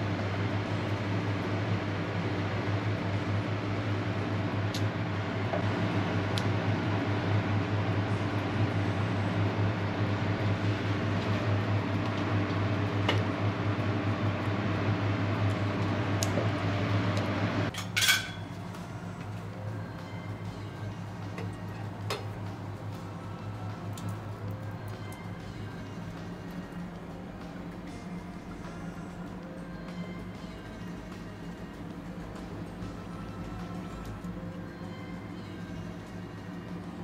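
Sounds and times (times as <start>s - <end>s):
fan-like machine hum: 0.0s - 37.0s.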